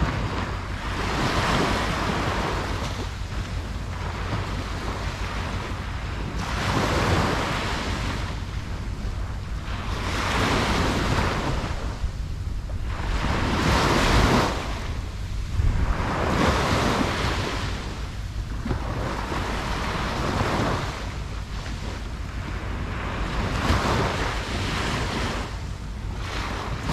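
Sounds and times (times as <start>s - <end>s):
low rumble of the sea: 0.0s - 26.9s
waves breaking on a beach: 0.0s - 26.9s
wind on the microphone: 0.0s - 26.9s.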